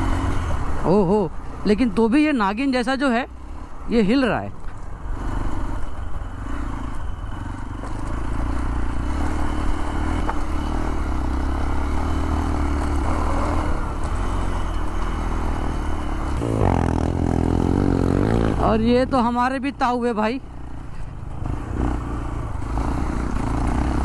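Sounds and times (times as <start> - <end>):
motorcycle engine running: 0.0 - 1.2, 3.4 - 24.0
second motorcycle engine: 1.9 - 24.0
bike rattling over bumpy ground: 4.0 - 24.0.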